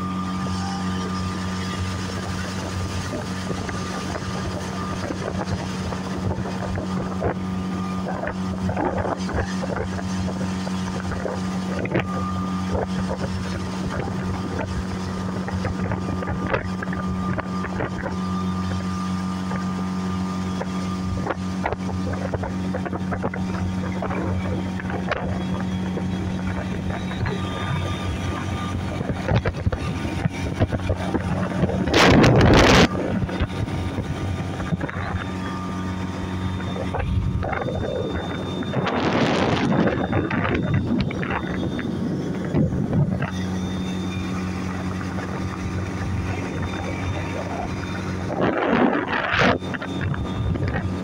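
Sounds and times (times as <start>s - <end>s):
outboard motor humming: 0.0s - 51.0s
wind noise on microphone: 0.0s - 51.0s.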